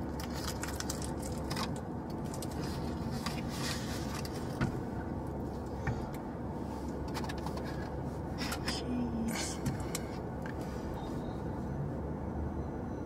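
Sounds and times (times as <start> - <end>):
low hum in car cabin: 0.0 - 13.0.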